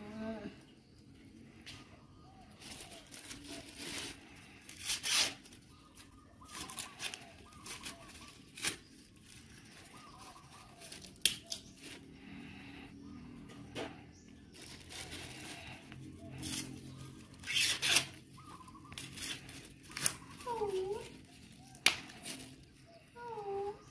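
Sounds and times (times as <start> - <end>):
corn husks tearing and rustling: 2.4 - 12.6, 14.5 - 23.8.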